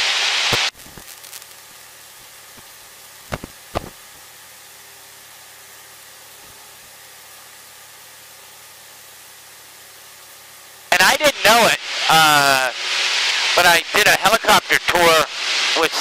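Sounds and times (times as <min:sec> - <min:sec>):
electronic hiss from headset: 0:00.0 - 0:04.4, 0:05.0 - 0:16.0.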